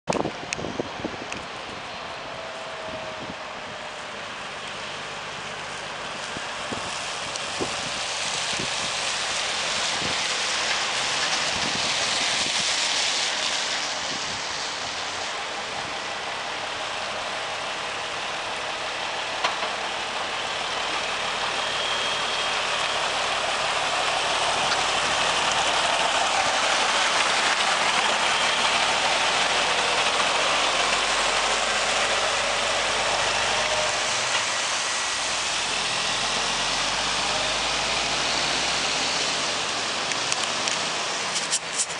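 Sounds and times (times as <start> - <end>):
tyres hissing on wet pavement: 0.1 - 41.9
truck diesel engine running: 0.3 - 41.9.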